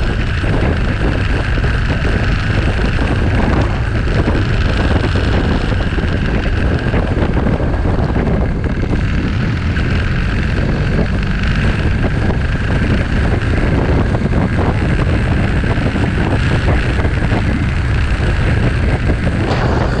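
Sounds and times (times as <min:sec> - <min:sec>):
motorcycle engine: 0:00.0 - 0:20.0
wind rushing over microphone: 0:00.0 - 0:20.0.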